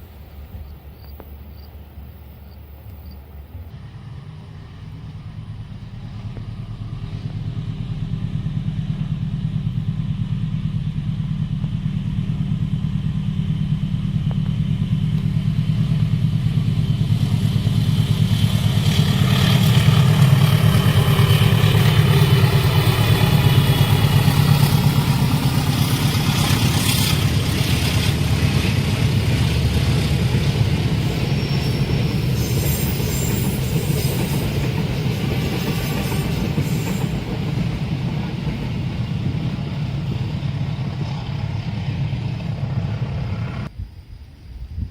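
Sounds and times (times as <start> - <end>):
wheel and rail noise: 0.0 - 43.7
locomotive engine rumble: 0.0 - 43.8.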